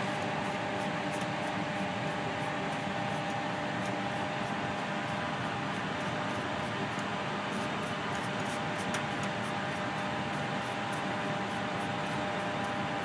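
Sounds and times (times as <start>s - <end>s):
fan whooshing: 0.0s - 13.0s.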